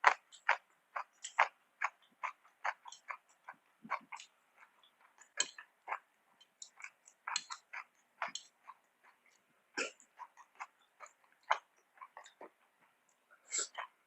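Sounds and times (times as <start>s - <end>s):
lip smacks and mouth clicks: 0.0s - 14.0s
wet chewing: 0.0s - 14.0s.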